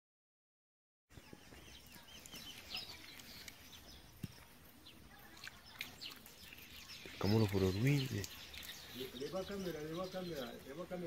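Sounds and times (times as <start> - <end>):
birds chirping: 1.1 - 11.0.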